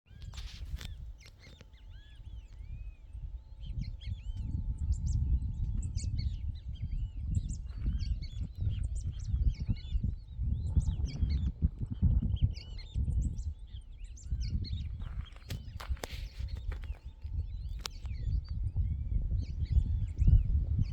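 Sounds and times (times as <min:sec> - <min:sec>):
birds chirping: 0:00.2 - 0:20.9
low rumble: 0:01.0 - 0:20.9.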